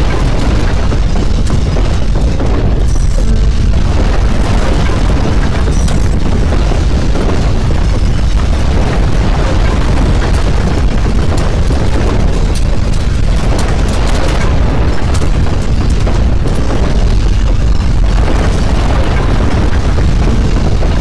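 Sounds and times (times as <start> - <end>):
crackles and rattles: 0.0 - 21.0
deep earthquake rumbling: 0.0 - 21.0.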